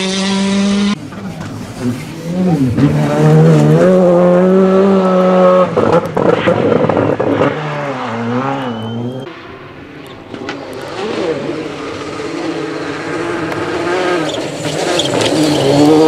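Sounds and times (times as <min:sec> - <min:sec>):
rally car engine revving: 0:00.0 - 0:09.3, 0:10.0 - 0:16.0.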